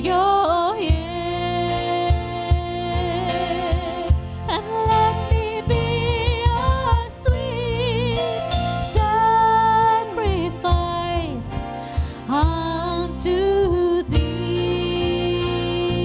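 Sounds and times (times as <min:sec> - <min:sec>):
person singing with vibrato: 0:00.0 - 0:16.0
band with steady drum beat: 0:00.1 - 0:13.0.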